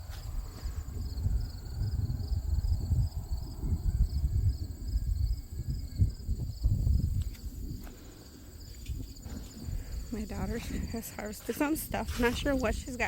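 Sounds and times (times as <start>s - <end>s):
low rumble on microphone: 0.0s - 11.2s
crickets chirping: 0.0s - 13.0s
high insect trill: 0.0s - 13.0s.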